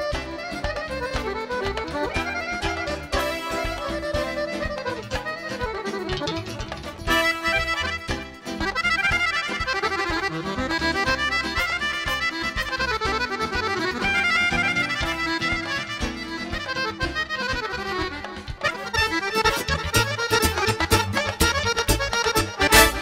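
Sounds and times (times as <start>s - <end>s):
accordion playing fast melody: 0.0s - 23.0s
drum kit keeping time: 0.0s - 23.0s.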